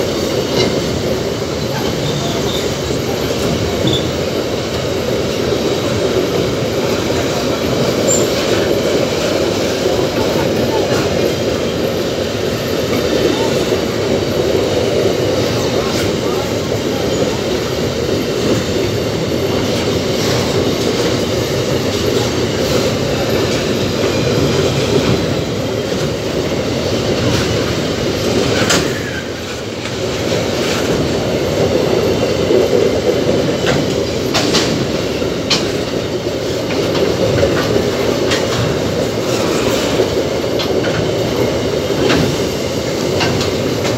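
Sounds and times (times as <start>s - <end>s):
steel wheels rumbling on rails: 0.0s - 43.9s.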